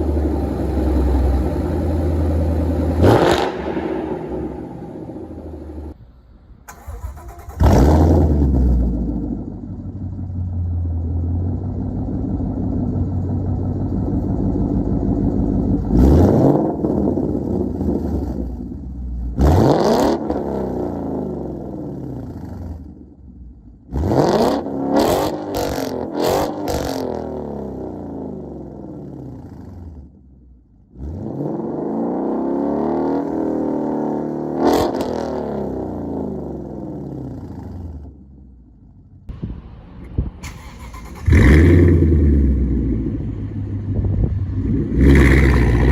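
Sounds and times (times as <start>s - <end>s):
car engine starting and revving: 0.0s - 6.0s, 6.6s - 30.2s, 30.8s - 45.9s.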